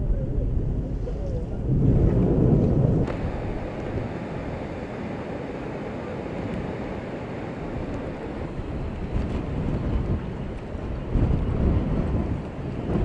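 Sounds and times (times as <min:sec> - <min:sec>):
storm surf breaking: 0:00.0 - 0:13.0
wind buffeting microphone: 0:00.0 - 0:13.0.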